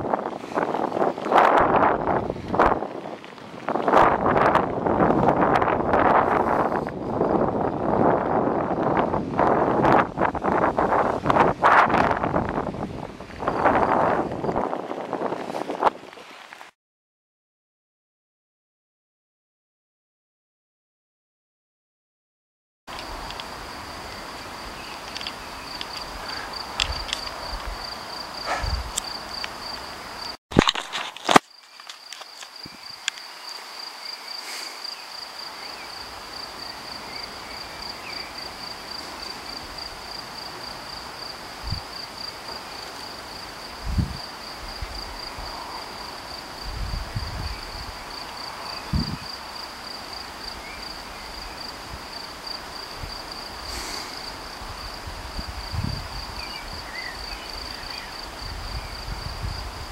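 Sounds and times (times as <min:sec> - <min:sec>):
crickets chirring: 0:00.0 - 0:16.5, 0:22.9 - 0:59.9.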